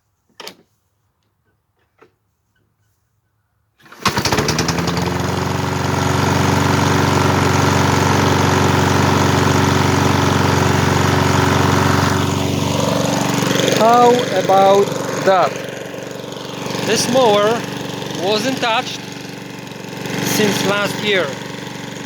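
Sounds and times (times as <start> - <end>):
lawn mower engine starting and running: 3.8 - 22.0.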